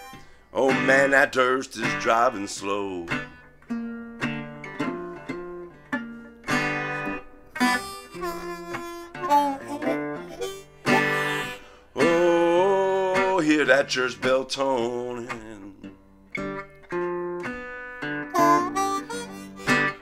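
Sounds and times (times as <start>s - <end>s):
slide guitar blues notes: 0.0s - 20.0s.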